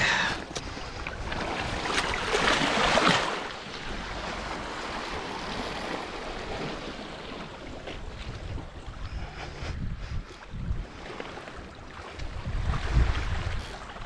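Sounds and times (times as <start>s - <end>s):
sea water lapping at shore: 0.0s - 14.0s.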